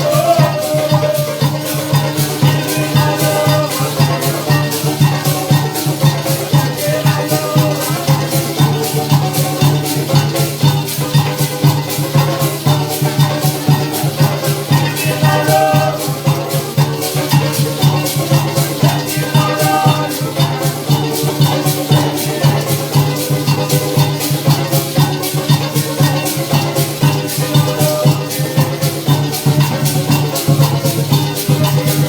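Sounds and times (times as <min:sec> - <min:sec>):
parang band music: 0:00.0 - 0:32.0
steady percussion beat: 0:00.0 - 0:32.0.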